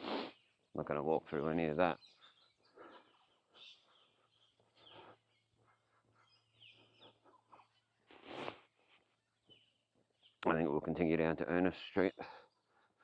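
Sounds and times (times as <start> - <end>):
bird chirps: 0.3 - 10.7.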